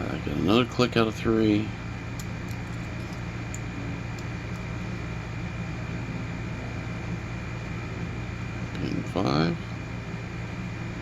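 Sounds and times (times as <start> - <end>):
humming and hissing room noise: 0.0 - 11.0.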